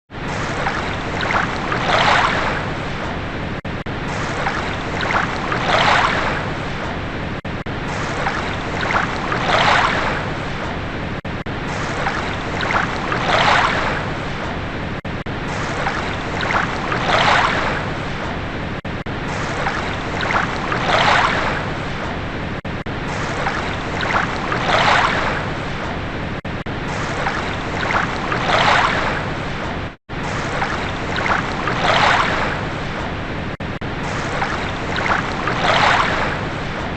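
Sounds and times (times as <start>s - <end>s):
waves washing in: 0.1s - 36.9s.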